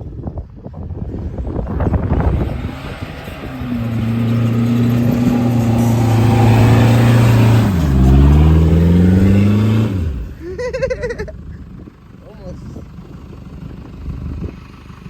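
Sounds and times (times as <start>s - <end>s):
vehicle engine revving: 1.0s - 15.0s.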